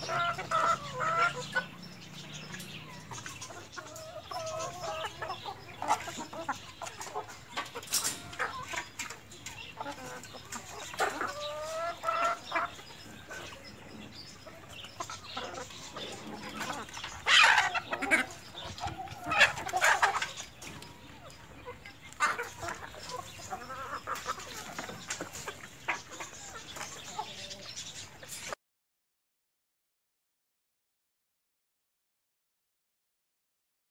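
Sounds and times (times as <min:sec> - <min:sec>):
chickens clucking and calling: 0:00.0 - 0:28.6.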